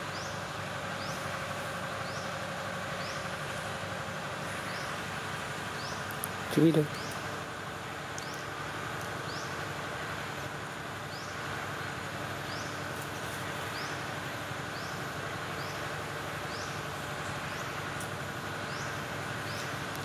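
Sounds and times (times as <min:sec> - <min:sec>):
forest insects chorus: 0:00.0 - 0:20.0.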